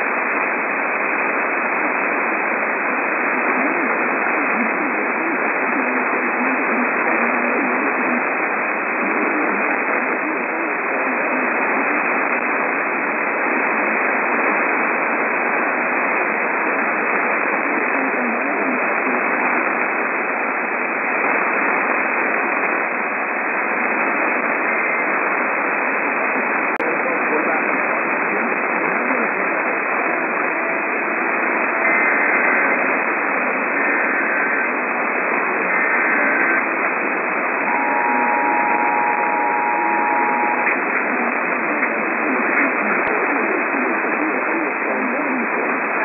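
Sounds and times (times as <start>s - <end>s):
radio static hiss: 0.0s - 46.0s.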